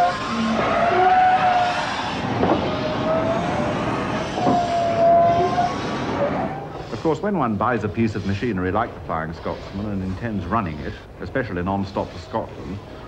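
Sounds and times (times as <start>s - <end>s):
high wheel squeal: 0.0s - 13.0s
steam locomotive running: 0.0s - 13.0s.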